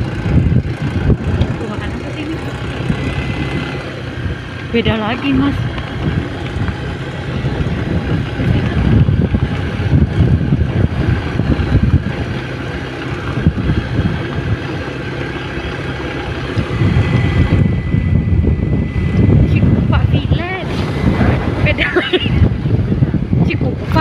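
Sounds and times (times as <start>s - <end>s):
vehicle engine and road noise: 0.0s - 24.0s
wind buffeting microphone: 0.0s - 24.0s.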